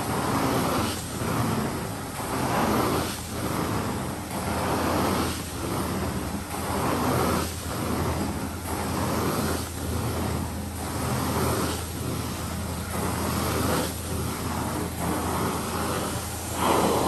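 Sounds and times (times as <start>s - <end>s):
carpet cleaning machine humming: 0.0s - 17.0s
whooshing cleaning strokes: 0.0s - 17.0s.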